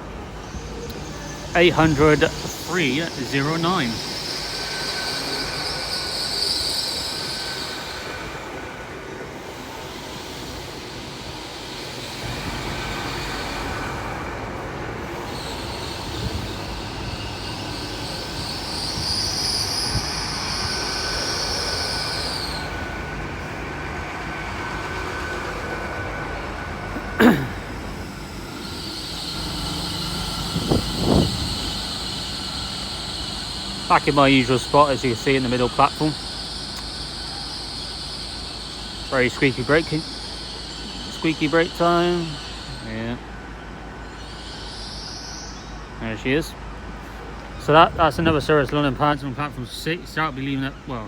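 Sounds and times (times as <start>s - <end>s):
train brakes squealing: 0.0s - 51.0s
train rumbling: 0.0s - 51.0s.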